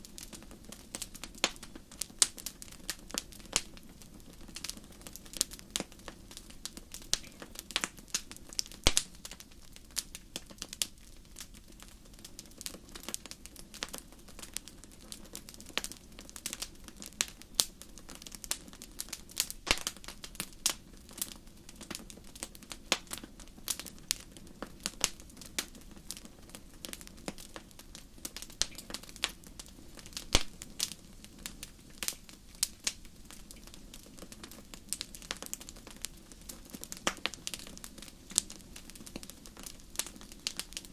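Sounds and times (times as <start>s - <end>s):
low rumble of flames: 0.0s - 40.9s
wood fire crackling and popping: 0.0s - 40.9s.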